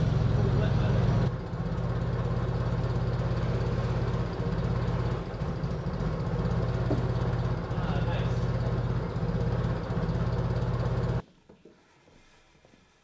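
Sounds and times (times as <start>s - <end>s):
forklift engine running: 0.0s - 11.2s.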